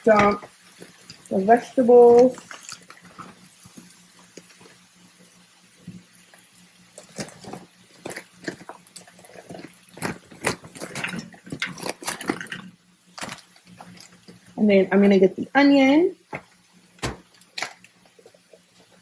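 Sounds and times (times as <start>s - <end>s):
peppers crackling in skillet: 0.0s - 15.1s, 16.2s - 19.0s.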